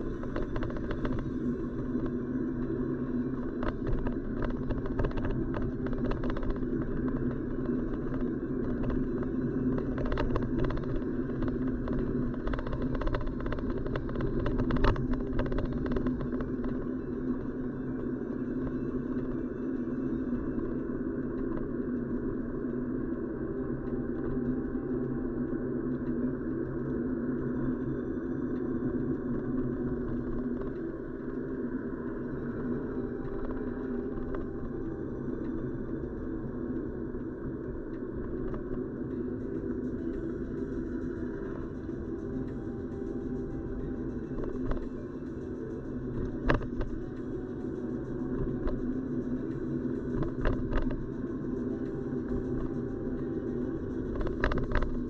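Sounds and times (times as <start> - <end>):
car road and engine noise: 0.0 - 55.0.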